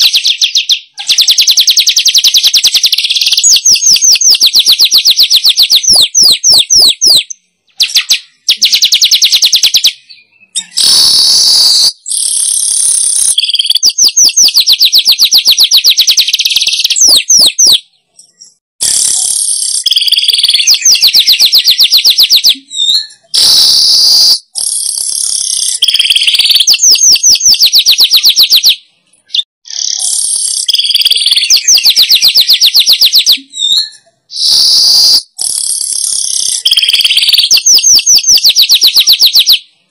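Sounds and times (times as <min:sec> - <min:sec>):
weaver birds singing: 0:03.0 - 0:39.5.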